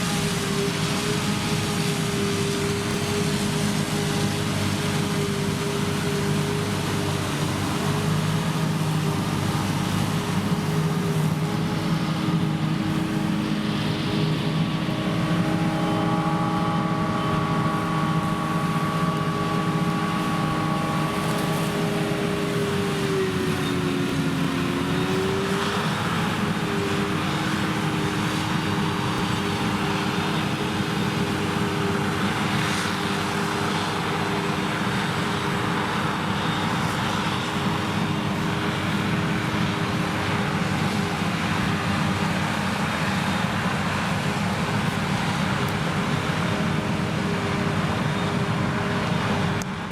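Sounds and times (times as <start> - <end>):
harvester engine droning under load: 0.0 - 49.9.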